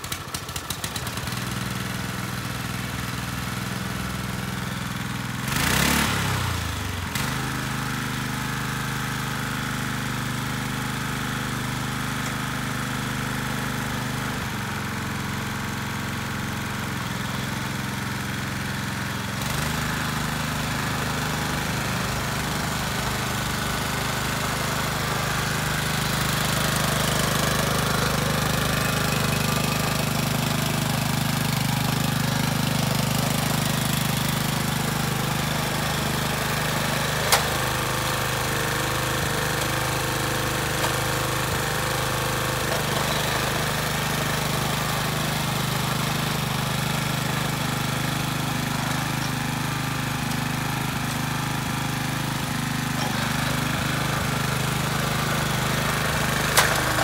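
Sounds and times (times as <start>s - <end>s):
tiller engine running: 0.0s - 57.0s.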